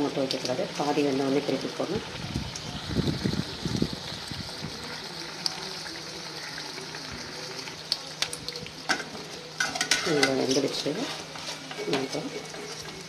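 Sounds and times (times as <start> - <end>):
fritters deep-frying in oil: 0.0 - 13.0.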